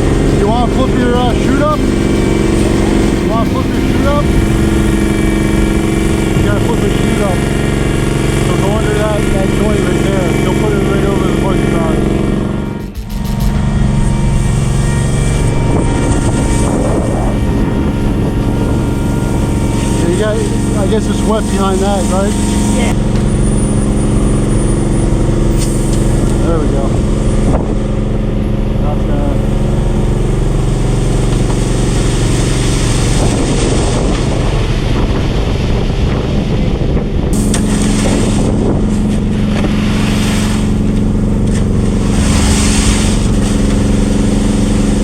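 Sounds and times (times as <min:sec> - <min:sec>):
rough scraping: 0:00.0 - 0:34.8, 0:37.4 - 0:45.0
concrete rushing: 0:00.0 - 0:45.0
heavy engine running: 0:00.0 - 0:45.0.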